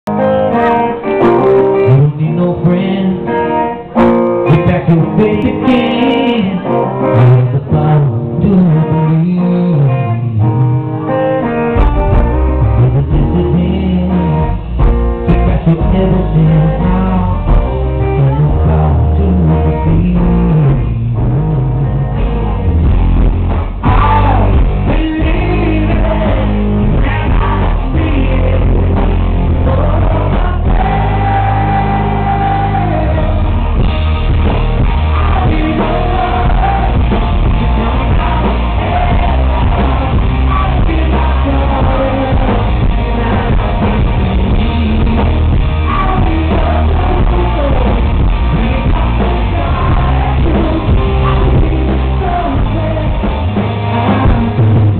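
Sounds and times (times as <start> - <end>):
bass guitar: 0.0 - 54.9
drums: 0.0 - 54.9
electric guitar: 0.0 - 54.9
man singing lead vocal: 0.1 - 21.3, 23.8 - 54.9.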